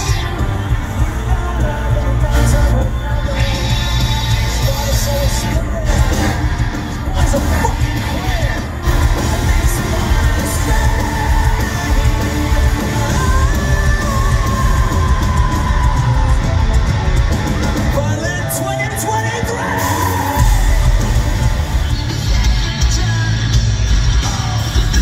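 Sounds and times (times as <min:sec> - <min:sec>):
live rock band: 0:00.0 - 0:25.0
person singing: 0:00.0 - 0:25.0.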